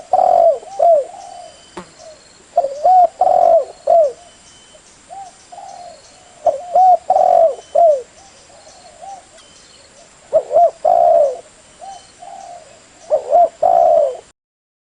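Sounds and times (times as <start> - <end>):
dove cooing: 0.0 - 14.3.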